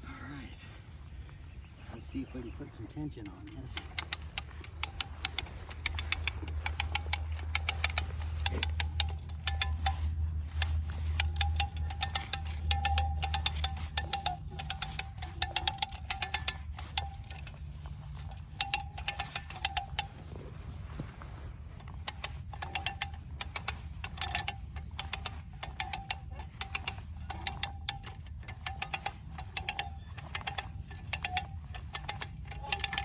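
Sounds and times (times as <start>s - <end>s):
ratchet winch clicking: 2.0s - 33.0s.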